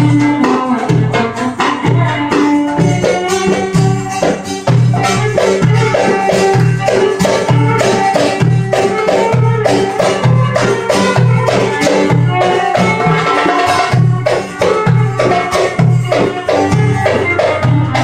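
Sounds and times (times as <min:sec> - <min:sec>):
hand drums beating: 0:00.0 - 0:18.0
plucked string instrument melody: 0:00.0 - 0:18.0.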